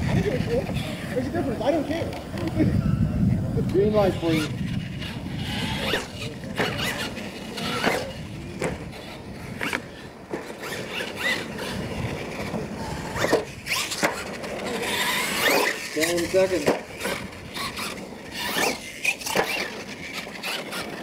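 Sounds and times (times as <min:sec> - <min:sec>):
toy truck motors whining: 0:00.0 - 0:21.0.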